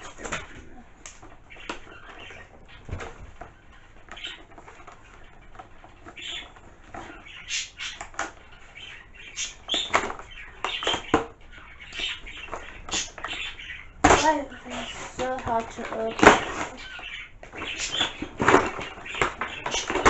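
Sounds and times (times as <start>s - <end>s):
packaging rustling and scratching: 0.0s - 20.0s.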